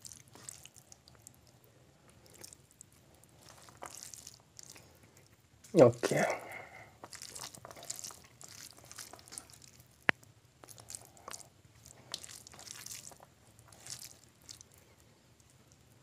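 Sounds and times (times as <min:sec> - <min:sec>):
fingers squishing wet rice: 0:00.0 - 0:16.0.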